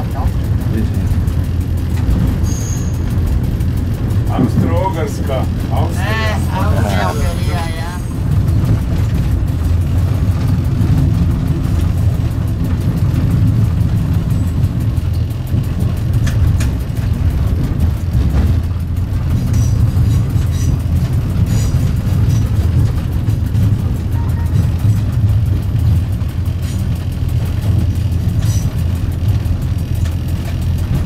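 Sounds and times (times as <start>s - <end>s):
diesel train rumbling: 0.0s - 31.0s.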